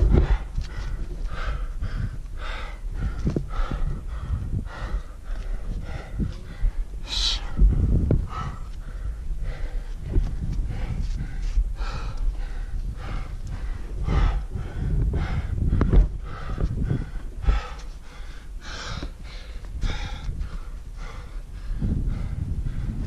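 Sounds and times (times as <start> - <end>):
hard rapid breathing: 0.0 - 23.0
low rumble: 0.0 - 23.0.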